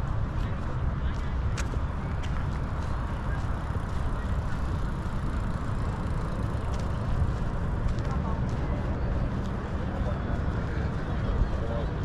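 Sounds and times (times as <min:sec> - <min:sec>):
low rumbling outdoor din: 0:00.0 - 0:12.0.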